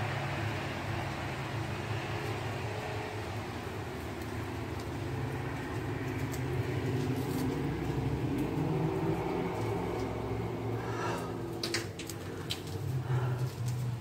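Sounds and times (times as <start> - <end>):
road traffic rumble: 0.0 - 14.0
vehicle passing: 0.0 - 14.0.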